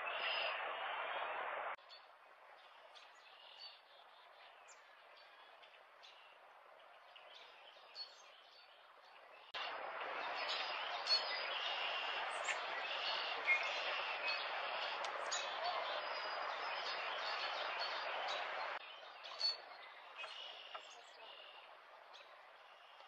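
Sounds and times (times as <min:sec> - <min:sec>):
outdoor background noise: 0:00.0 - 0:23.0
small birds chirping: 0:02.6 - 0:23.0.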